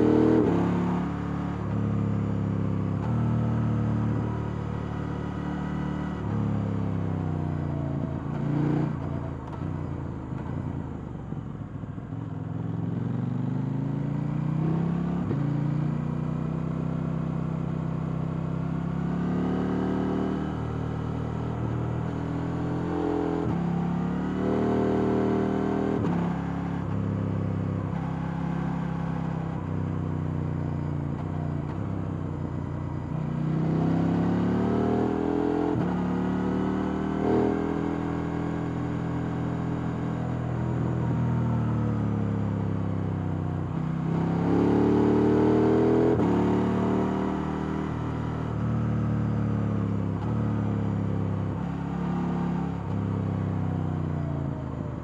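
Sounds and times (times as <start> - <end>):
motorcycle engine accelerating: 0.0 - 11.4, 12.2 - 55.0.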